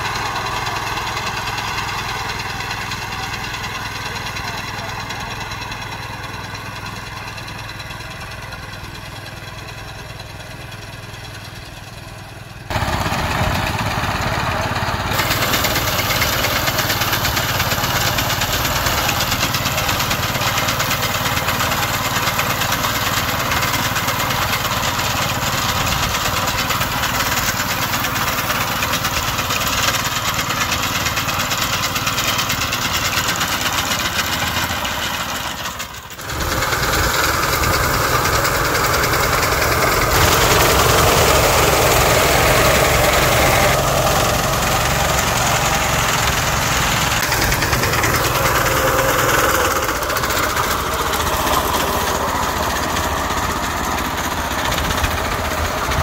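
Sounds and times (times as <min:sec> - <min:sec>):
harvester engine running: 0:00.0 - 0:56.0.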